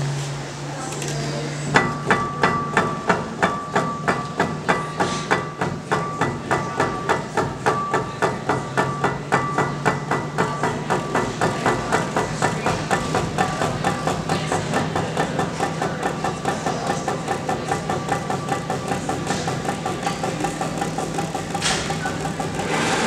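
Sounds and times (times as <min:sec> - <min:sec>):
ceramic sculpture clacking on base: 0:01.8 - 0:22.6.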